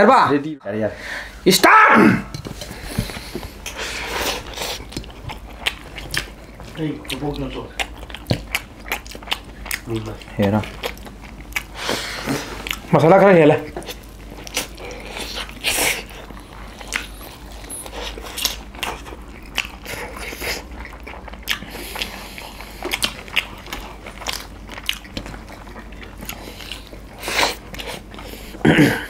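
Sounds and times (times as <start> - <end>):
chewing and lip smacks: 4.4 - 12.9, 13.6 - 28.6.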